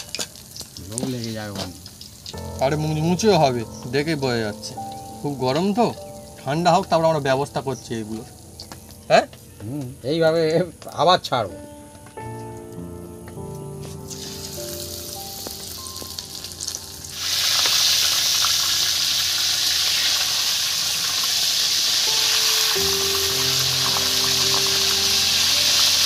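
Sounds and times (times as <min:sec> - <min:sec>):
fish sizzling in hot oil: 0:00.0 - 0:09.2, 0:14.1 - 0:26.0.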